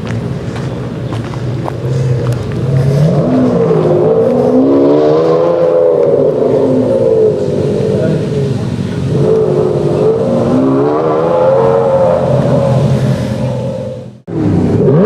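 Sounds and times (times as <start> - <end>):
sports car engine revving: 1.6 - 15.0.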